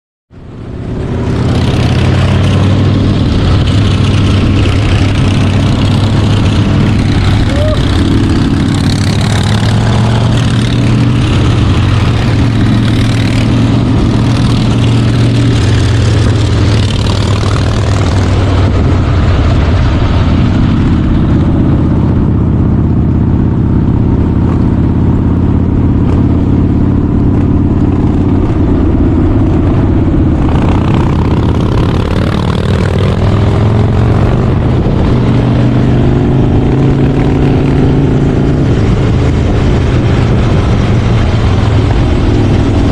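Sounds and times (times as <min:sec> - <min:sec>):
motorcycle engine running: 0:00.4 - 0:42.9.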